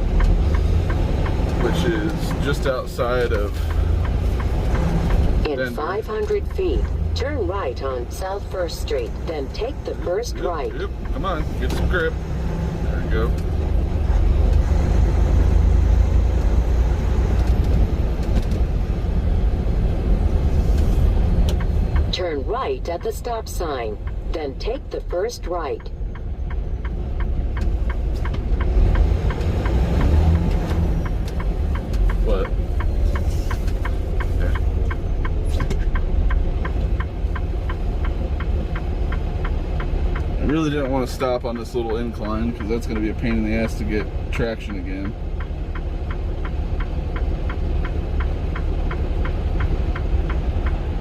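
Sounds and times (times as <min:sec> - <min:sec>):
rapid even ticking: 0:00.0 - 0:51.0
road noise: 0:00.0 - 0:51.0
truck diesel engine rumble: 0:00.0 - 0:51.0.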